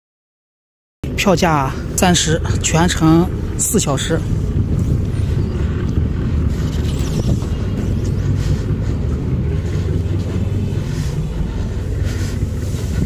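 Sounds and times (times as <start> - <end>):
boat engine rumble: 1.0 - 13.0
wind on microphone: 1.8 - 13.0.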